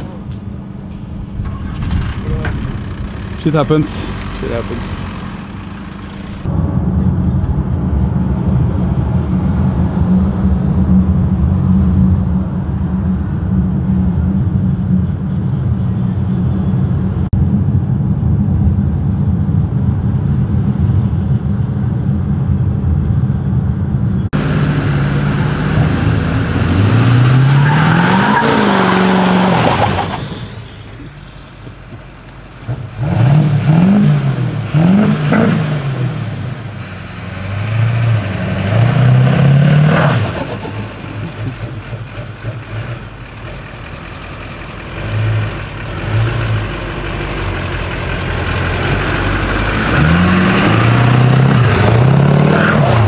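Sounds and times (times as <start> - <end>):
diesel truck engine revving: 0.0 - 17.4, 23.8 - 53.0.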